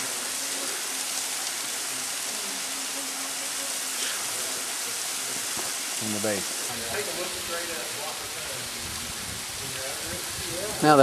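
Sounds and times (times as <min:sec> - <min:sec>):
waterfall hissing: 0:00.0 - 0:11.0.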